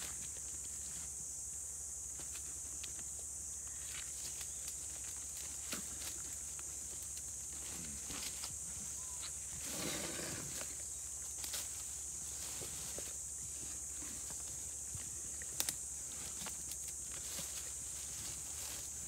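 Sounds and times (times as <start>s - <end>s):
twigs and leaves crackling: 3.7s - 19.0s.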